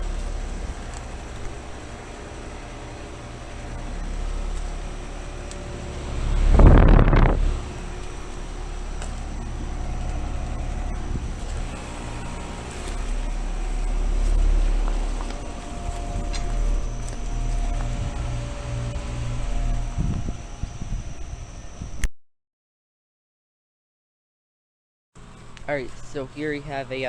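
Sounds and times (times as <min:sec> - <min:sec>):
condenser fans humming: 0:00.0 - 0:22.1, 0:25.2 - 0:27.0.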